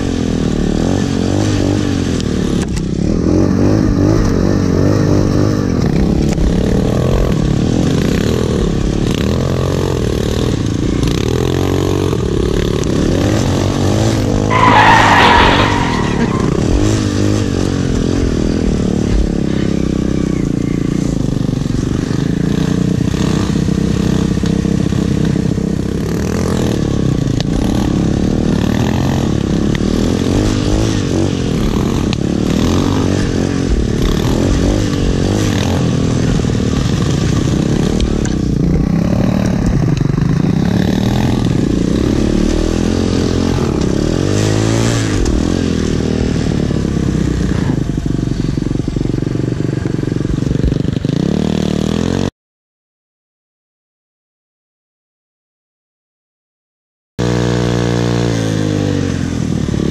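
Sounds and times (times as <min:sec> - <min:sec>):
dirt bike engine running: 0:00.0 - 0:52.3, 0:57.2 - 0:59.9.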